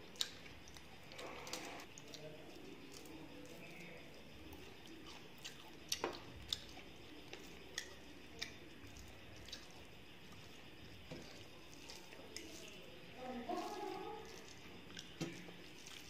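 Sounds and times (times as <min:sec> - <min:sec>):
chewing: 0:00.0 - 0:16.0
fingers mashing rice squishing: 0:00.0 - 0:16.0.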